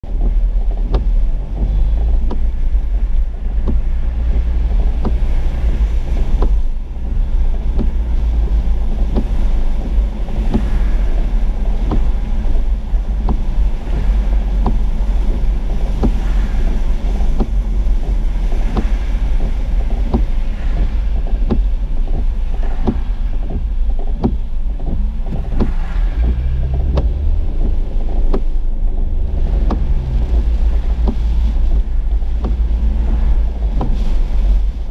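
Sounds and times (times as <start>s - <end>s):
car rumbling on wet road: 0.0s - 34.9s
rain tapping on windshield: 0.0s - 34.9s.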